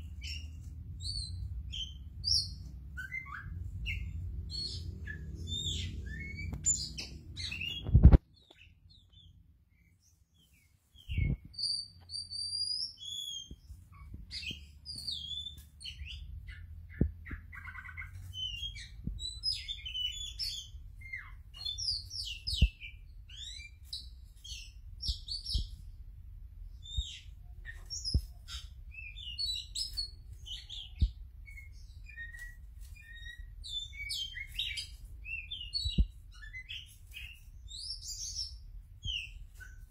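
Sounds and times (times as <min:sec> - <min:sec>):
bird song with chirps and whistles: 0:00.0 - 0:26.0, 0:26.7 - 0:39.9.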